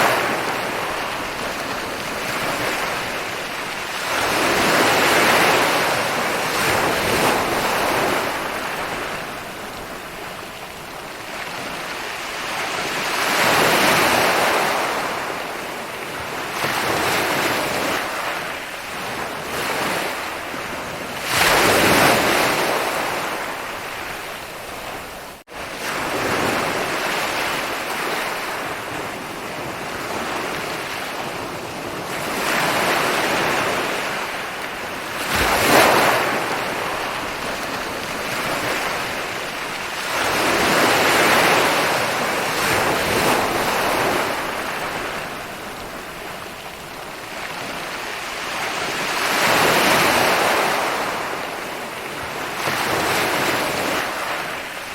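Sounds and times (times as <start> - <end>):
ocean waves breaking on shore: 0.0 - 54.9.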